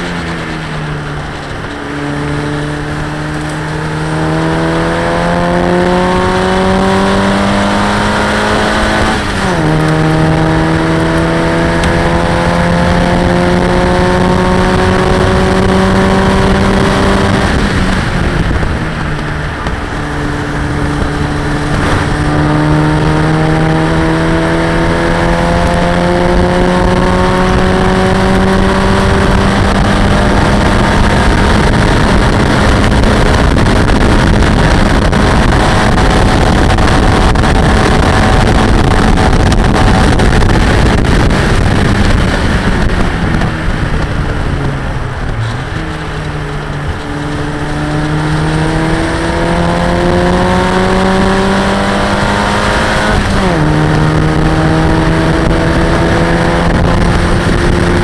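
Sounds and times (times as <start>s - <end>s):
race car engine accelerating: 0.0s - 58.0s
wind and road rush: 0.0s - 58.0s.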